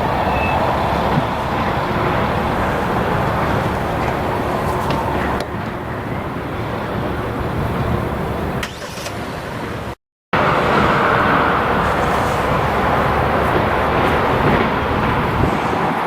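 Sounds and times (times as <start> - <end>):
freight train rumbling past: 0.0 - 8.6, 9.3 - 16.0.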